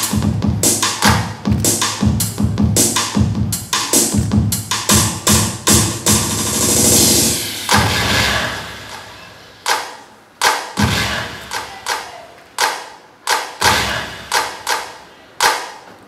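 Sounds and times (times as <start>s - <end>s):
sharp percussive hits in a hall: 0.0s - 15.9s.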